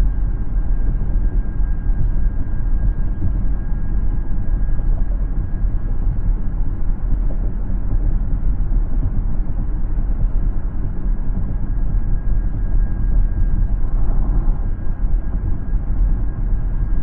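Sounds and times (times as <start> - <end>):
faint thin whine: 0.0 - 17.0.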